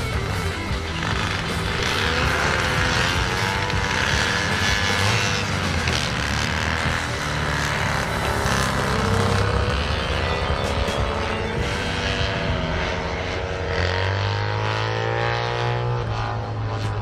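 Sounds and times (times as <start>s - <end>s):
background music: 0.0s - 17.0s
racing motorcycle engines: 0.0s - 17.0s.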